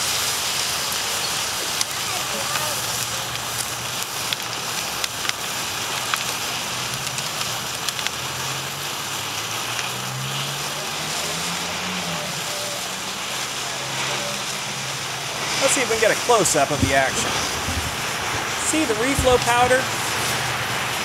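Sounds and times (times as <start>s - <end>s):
rocket candy burning hiss: 0.0s - 21.0s
sharp pops and crackles: 0.0s - 21.0s.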